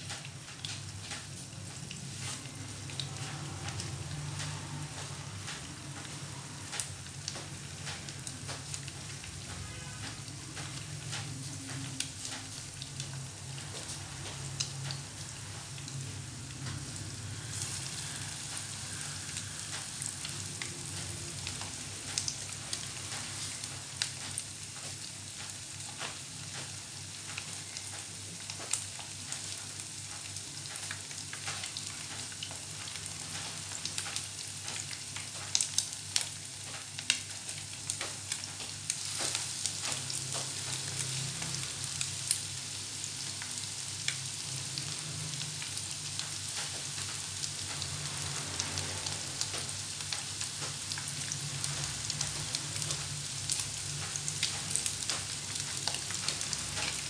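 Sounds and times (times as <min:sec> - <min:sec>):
hot oil sizzling in a frying pan: 0:00.0 - 0:57.0
oil popping and crackling: 0:00.0 - 0:57.0.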